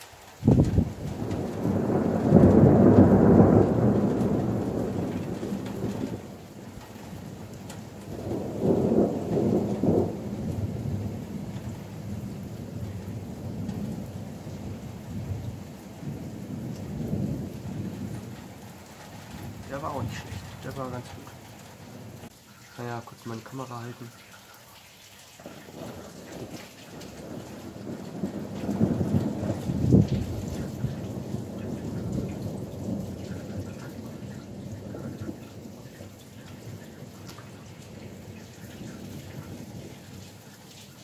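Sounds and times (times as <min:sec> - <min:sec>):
steady rain: 0:00.0 - 0:41.0
thunder crack and rumble: 0:00.3 - 0:22.3, 0:25.4 - 0:40.4.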